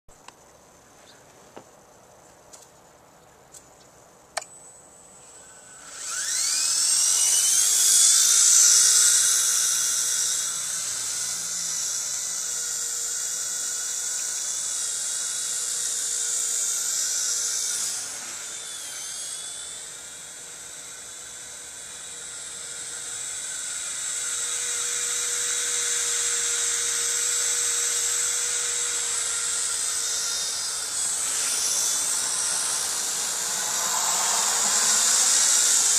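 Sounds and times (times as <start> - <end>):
model helicopter motor whine: 4.4 - 35.9.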